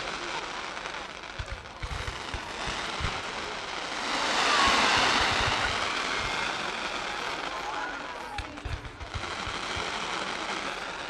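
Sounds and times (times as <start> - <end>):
fireworks booms: 0.0 - 11.0
fireworks crackling: 0.0 - 11.0.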